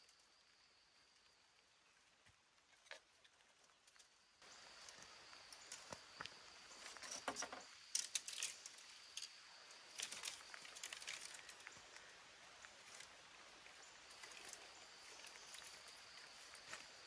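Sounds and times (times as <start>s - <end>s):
bamboo stakes clicking and rustling: 2.2s - 17.0s.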